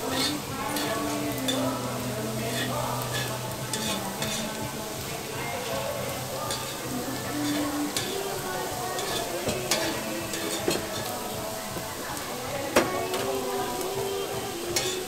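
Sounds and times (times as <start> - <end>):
meat sizzling on a grill: 0.0 - 15.0.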